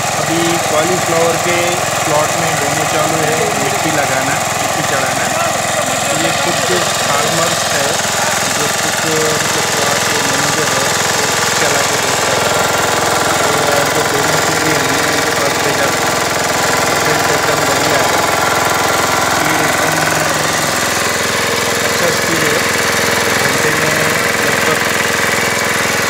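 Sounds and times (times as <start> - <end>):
power weeder engine running: 0.0 - 26.0.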